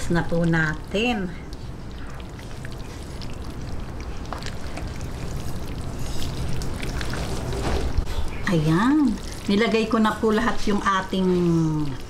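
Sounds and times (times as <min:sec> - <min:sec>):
wet squelching of noodles and sauce: 0:00.0 - 0:12.0.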